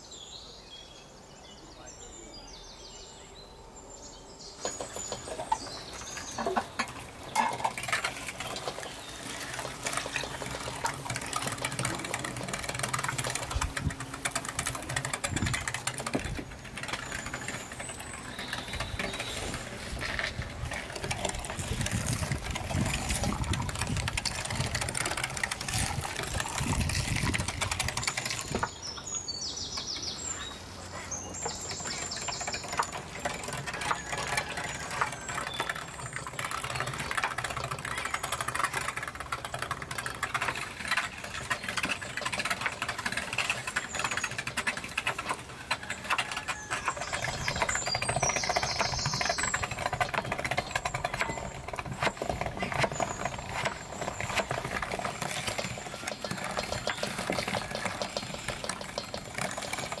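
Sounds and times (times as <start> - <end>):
hand-cranked meat grinder rattling: 4.6 - 60.0.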